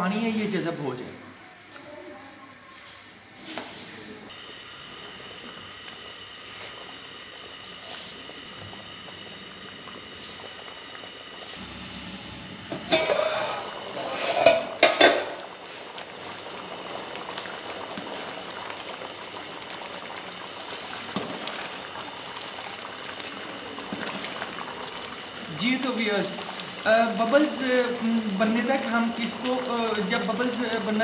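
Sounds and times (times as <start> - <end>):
rice boiling in a pot: 2.4 - 31.0.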